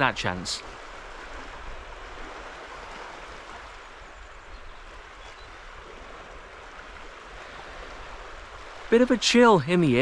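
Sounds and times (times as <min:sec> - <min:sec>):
wind buffeting microphone: 0:00.6 - 0:09.0.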